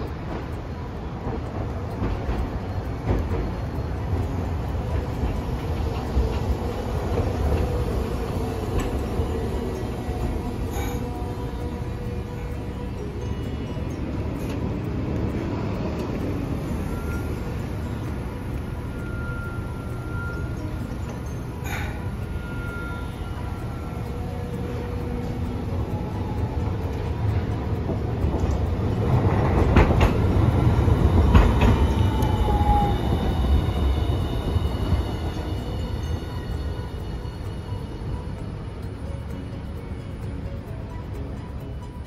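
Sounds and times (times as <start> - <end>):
steady low rumble: 0.0 - 42.0
street traffic: 0.0 - 42.0
tram wheels clacking: 0.0 - 42.0
tram whine: 0.0 - 42.0.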